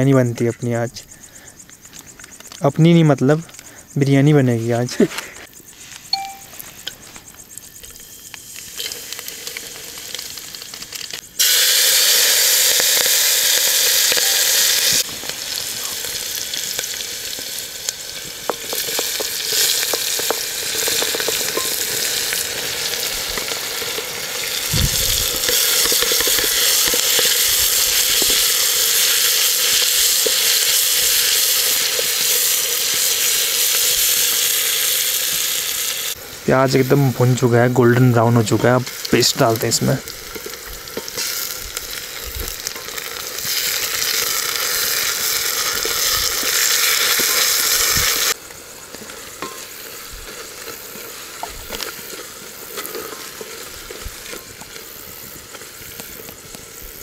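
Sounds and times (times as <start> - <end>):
onions sizzling in oil: 5.6 - 57.0.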